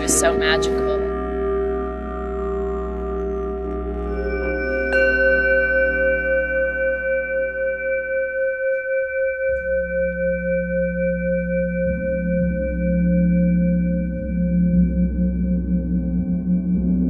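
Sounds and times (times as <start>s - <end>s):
singing bowls ringing: 0.0s - 16.9s
deeper bowl tone: 0.0s - 17.0s.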